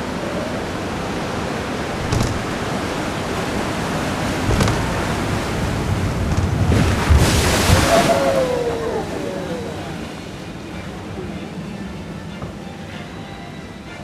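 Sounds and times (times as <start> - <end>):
wind buffeting microphone: 0.0 - 12.9
water rushing and splashing: 0.0 - 14.0.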